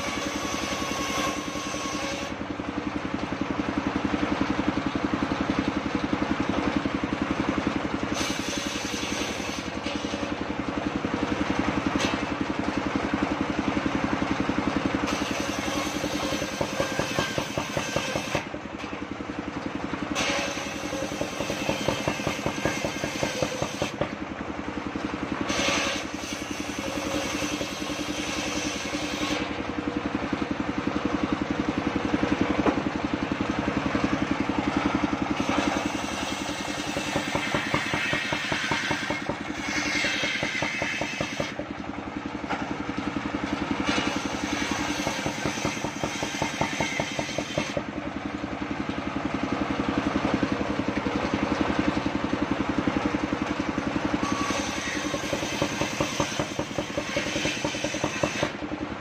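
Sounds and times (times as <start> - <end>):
engine-driven circular saw cutting log: 0.0 - 59.0.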